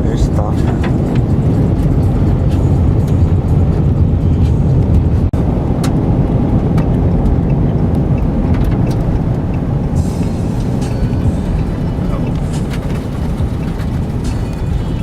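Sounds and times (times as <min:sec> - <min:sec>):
vehicle cabin road rumble: 0:00.0 - 0:15.0.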